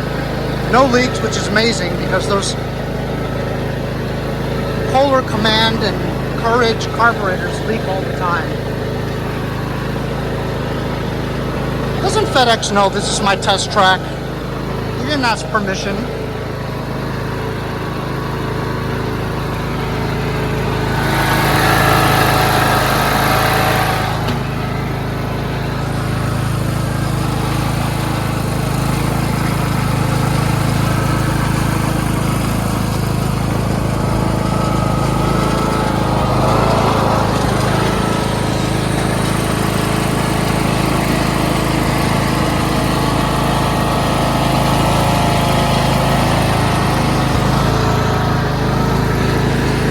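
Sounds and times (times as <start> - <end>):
lawn tractor engine running: 0.0 - 49.9.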